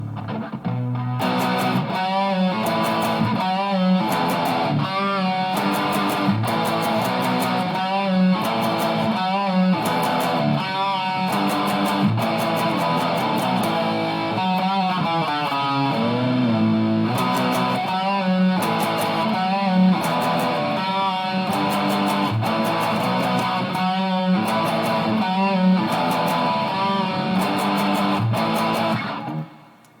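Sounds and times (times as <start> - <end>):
electric guitar with bent notes: 0.0 - 30.0.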